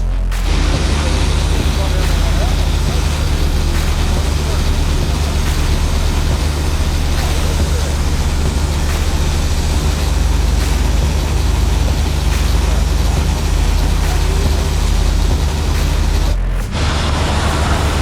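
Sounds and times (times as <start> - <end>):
heavy machinery engine running: 0.2 - 18.0.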